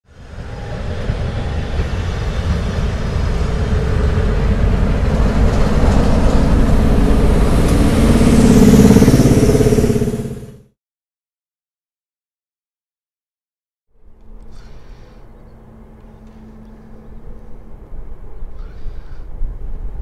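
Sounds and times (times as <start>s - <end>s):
diesel locomotive engine rumbling: 0.1s - 10.7s, 14.0s - 20.0s.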